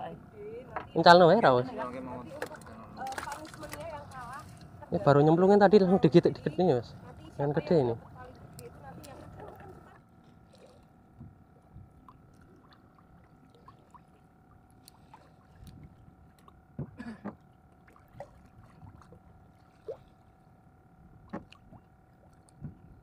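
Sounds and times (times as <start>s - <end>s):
faint steady hum: 0.0s - 23.0s
small waves lapping against boat hull: 0.4s - 23.0s.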